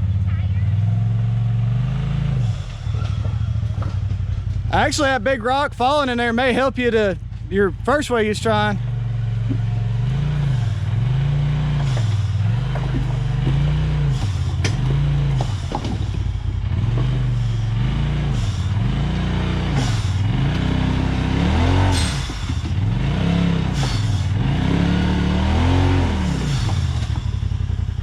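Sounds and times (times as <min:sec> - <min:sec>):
off-road engine revving: 0:00.0 - 0:28.0.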